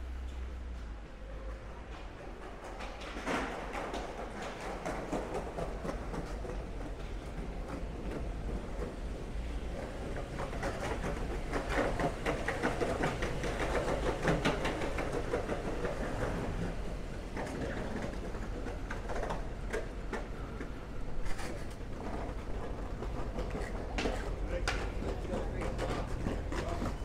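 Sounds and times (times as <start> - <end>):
low street hum: 0.0 - 27.0.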